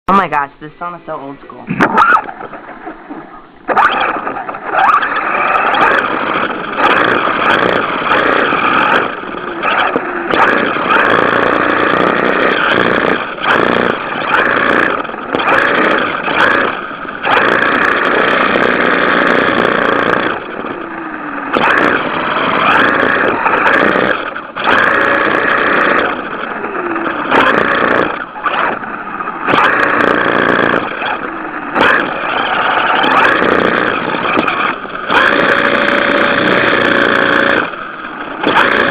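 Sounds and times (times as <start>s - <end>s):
rc car motors revving: 1.8s - 38.9s.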